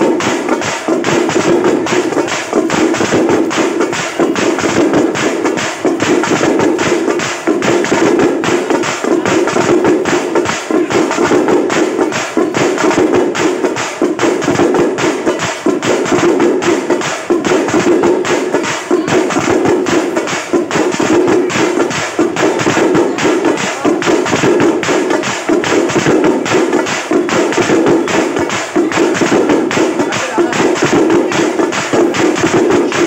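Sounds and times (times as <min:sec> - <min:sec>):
loud fast drumming: 0:00.0 - 0:33.0.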